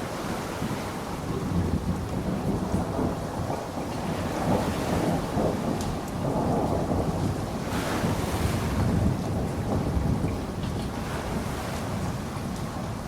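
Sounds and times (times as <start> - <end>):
low rumble of thunder: 0.0 - 13.0
steady rainfall: 0.0 - 13.0.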